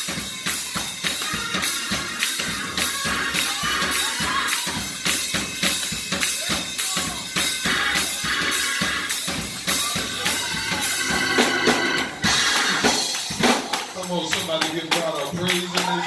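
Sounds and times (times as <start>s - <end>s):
drum kit playing a steady beat: 0.0s - 16.0s
ringing cymbals: 0.0s - 16.0s.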